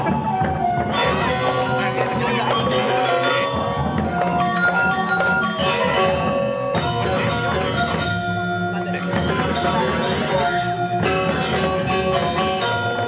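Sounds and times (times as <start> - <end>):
gamelan ensemble playing: 0.0 - 13.0.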